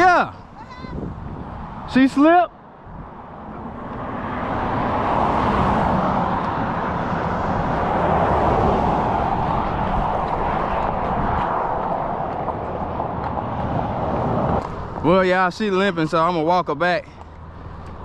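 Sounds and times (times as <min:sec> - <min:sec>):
vehicle rushing past: 0:01.0 - 0:15.5.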